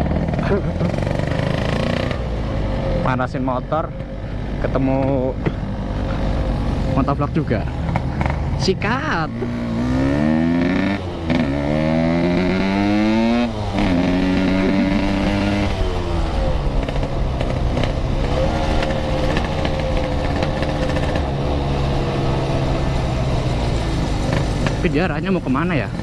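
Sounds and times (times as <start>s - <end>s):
two-stroke motorcycle accelerating: 0.0s - 26.0s.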